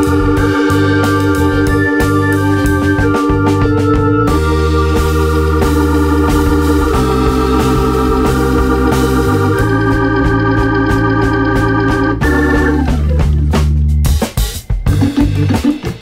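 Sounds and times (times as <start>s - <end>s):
moving bass line: 0.0s - 16.0s
organ-like keyboard chords: 0.0s - 16.0s.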